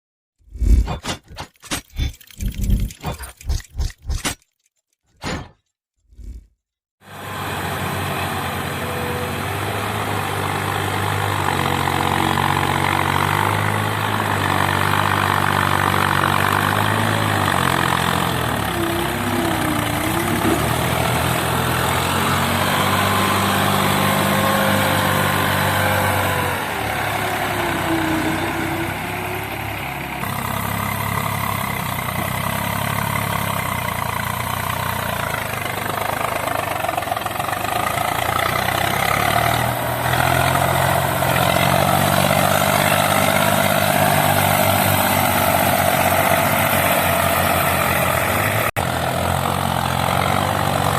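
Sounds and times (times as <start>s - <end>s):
diesel tractor engines running: 7.1s - 50.9s.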